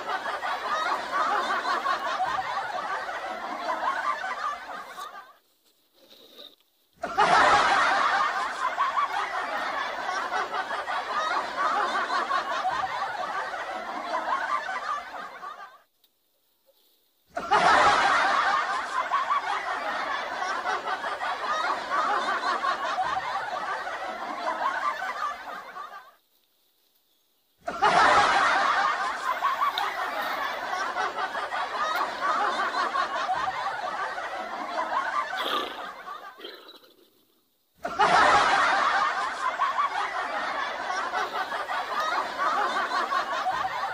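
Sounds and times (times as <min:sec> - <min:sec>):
laughter: 0:00.0 - 0:05.5, 0:06.2 - 0:15.9, 0:17.3 - 0:26.2, 0:27.6 - 0:43.9.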